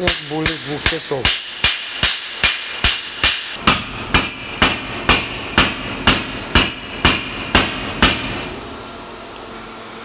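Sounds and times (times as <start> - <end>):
hammer blows on metal ringing: 0.0 - 8.7.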